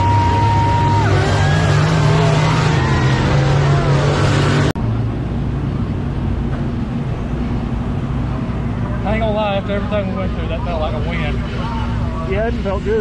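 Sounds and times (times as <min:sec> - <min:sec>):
low engine rumble: 0:00.0 - 0:13.0
race car engines: 0:00.0 - 0:13.0.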